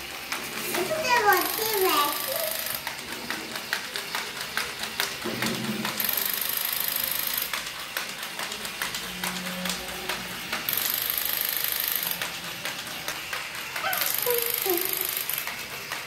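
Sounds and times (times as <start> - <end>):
toy motor buzzing with high whine: 0.0 - 16.0.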